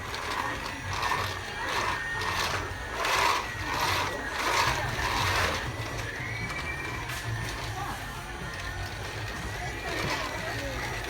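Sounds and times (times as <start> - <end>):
toy vacuum motor whirring: 0.0 - 11.0.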